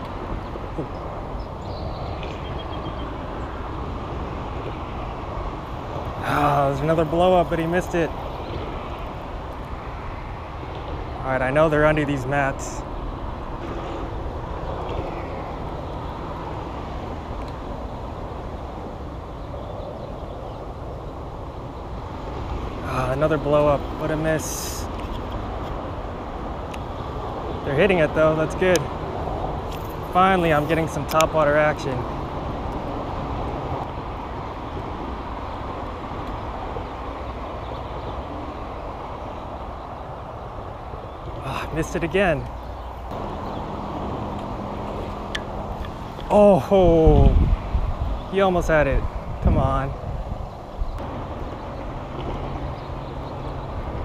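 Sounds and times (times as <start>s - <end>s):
highway traffic rumble: 0.0s - 54.0s.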